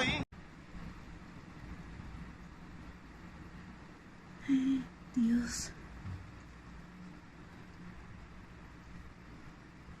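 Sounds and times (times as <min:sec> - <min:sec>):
low wind noise: 0:00.0 - 0:10.0.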